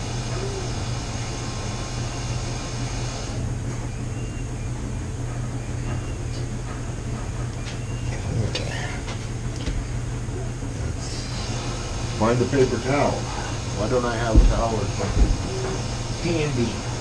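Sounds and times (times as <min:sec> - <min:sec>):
household machines humming: 0:00.0 - 0:17.0.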